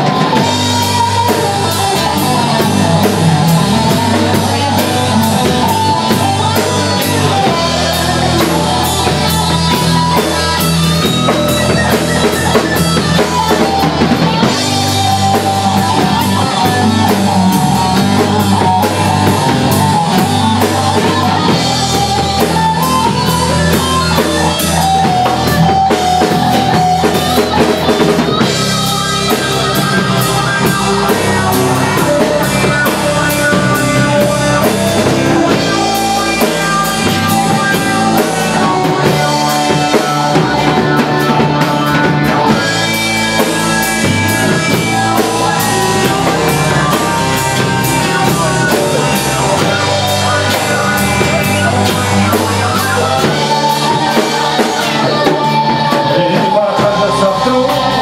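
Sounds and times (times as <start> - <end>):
bass: 0.0 - 58.0
drum kit: 0.0 - 58.0.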